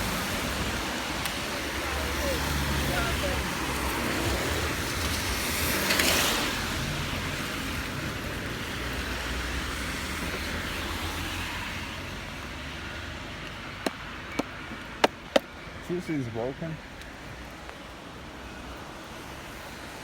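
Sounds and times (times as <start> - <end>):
car tyres hissing on wet road: 0.0 - 14.7, 15.9 - 20.0.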